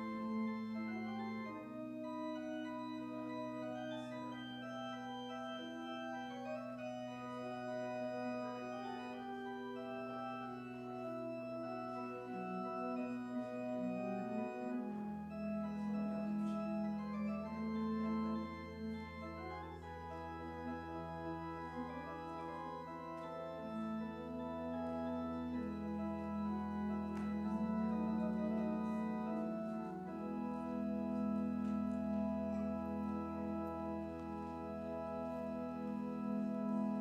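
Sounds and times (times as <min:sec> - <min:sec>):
organ chords: 0:00.0 - 0:37.0.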